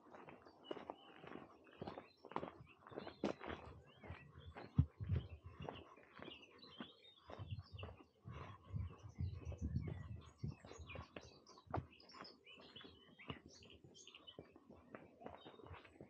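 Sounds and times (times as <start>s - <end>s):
songbirds chirping and singing: 0.1s - 16.0s.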